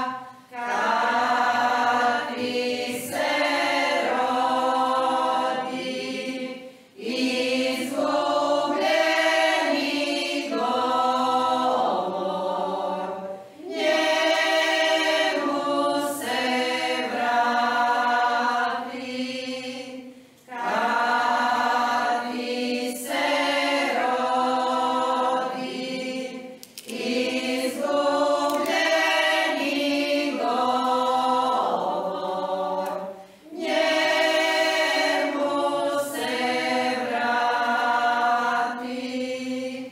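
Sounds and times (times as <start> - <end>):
women's choir singing a hymn: 0.0 - 39.9.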